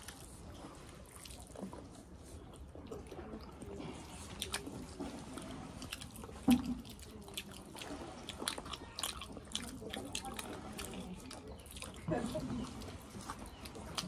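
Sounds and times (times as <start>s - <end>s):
wet chewing mouth sounds: 0.0s - 14.0s.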